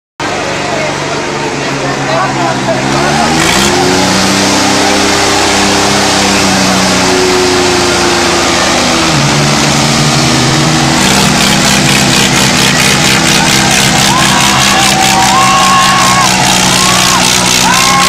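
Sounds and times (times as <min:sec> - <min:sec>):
diesel tractor engines revving hard: 0:00.2 - 0:18.0.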